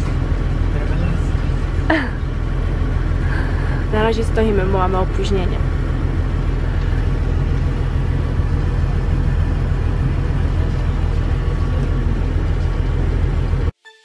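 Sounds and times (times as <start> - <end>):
train machinery rumble and hum: 0.0 - 13.8.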